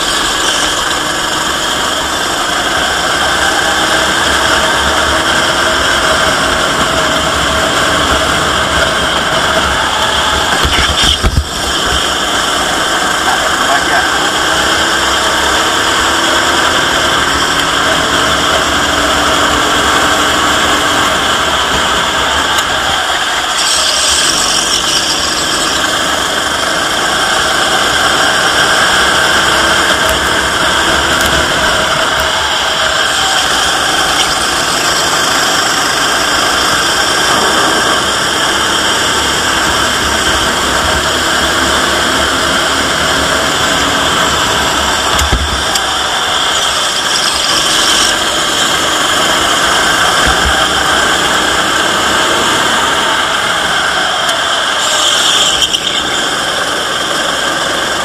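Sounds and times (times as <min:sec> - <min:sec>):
go-kart engine revving: 0:00.0 - 0:58.0
wind rush and mechanical noise: 0:00.0 - 0:58.0.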